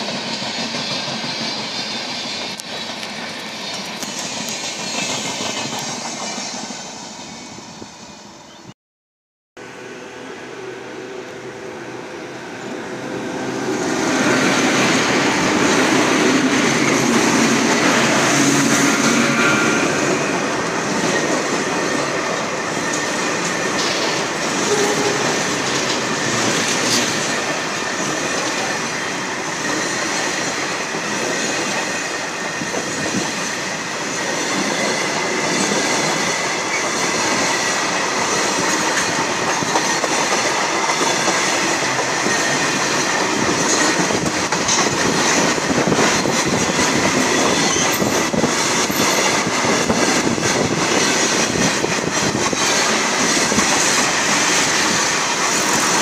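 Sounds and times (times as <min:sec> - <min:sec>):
train wheels on rails: 0:00.0 - 0:08.6, 0:09.6 - 0:56.0
freight train passing: 0:00.0 - 0:08.7, 0:09.6 - 0:56.0.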